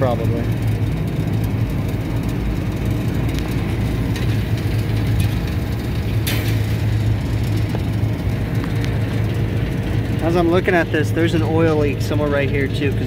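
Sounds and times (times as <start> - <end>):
refrigeration machinery humming: 0.0 - 13.0.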